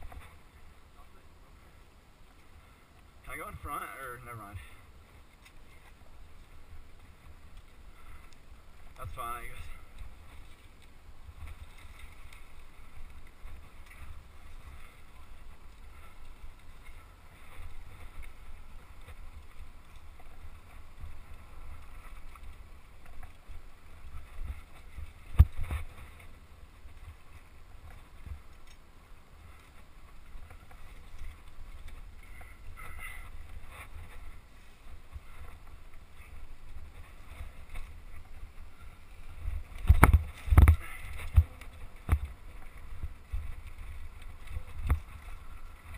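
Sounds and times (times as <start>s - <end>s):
wind rumble on microphone: 4.5s - 45.9s.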